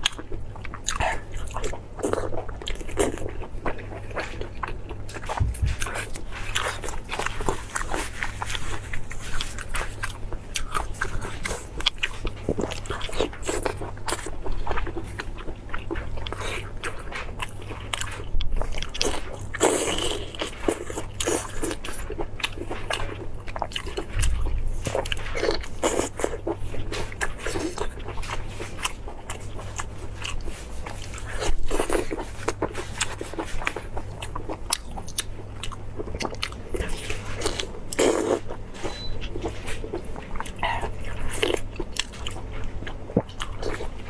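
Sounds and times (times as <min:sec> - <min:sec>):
person biting and chewing meat: 0:00.0 - 0:44.0.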